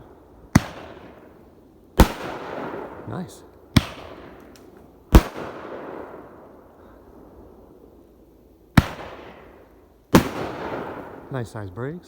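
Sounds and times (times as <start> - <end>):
fireworks bangs: 0.0 - 7.9, 8.7 - 12.0.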